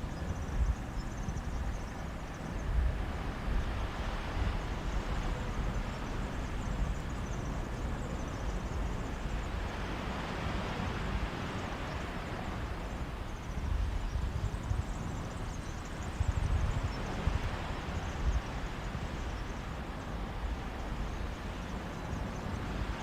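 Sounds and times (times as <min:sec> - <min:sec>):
surf washing on a beach: 0:00.0 - 0:23.0
wind rumble on microphone: 0:00.0 - 0:23.0.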